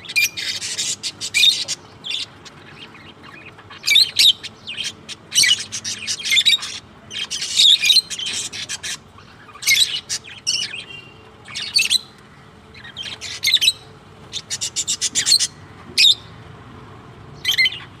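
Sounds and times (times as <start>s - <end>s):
parrots chirping and squawking: 0.0s - 16.4s, 17.4s - 18.0s.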